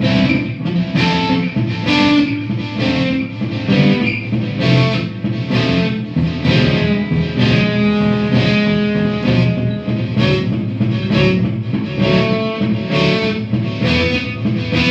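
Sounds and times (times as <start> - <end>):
distorted electric guitar chords: 0.0 - 14.9.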